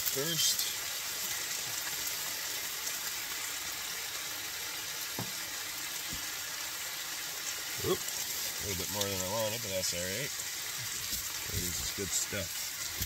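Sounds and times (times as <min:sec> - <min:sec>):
steak sizzling: 0:00.0 - 0:13.0.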